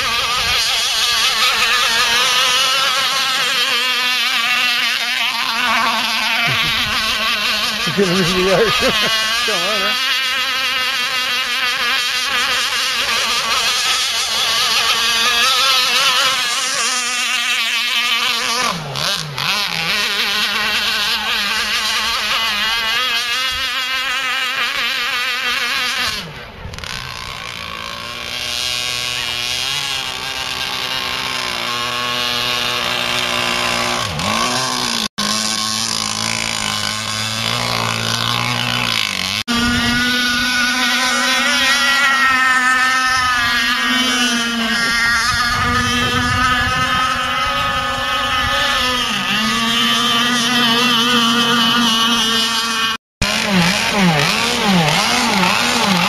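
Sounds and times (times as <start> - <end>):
model boat motor whining: 0.0 - 56.0.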